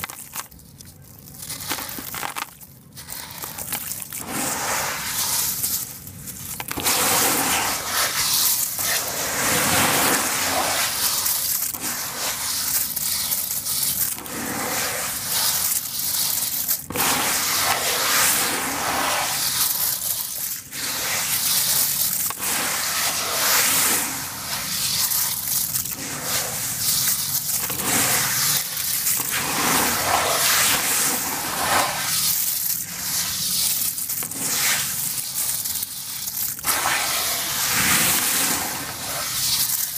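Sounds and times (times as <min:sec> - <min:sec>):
hands crunching gritty crumble: 0:00.0 - 0:39.9.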